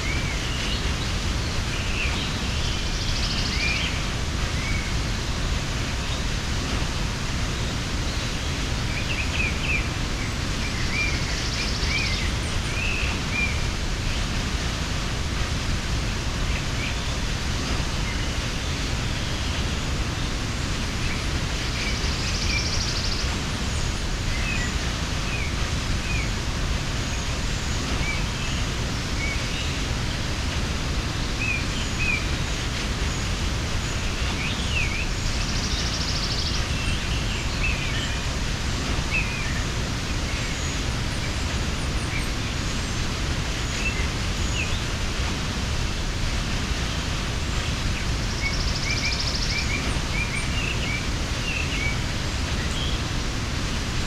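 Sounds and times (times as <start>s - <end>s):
small birds chirping: 0.0s - 54.0s
waterfall rushing: 0.0s - 54.0s.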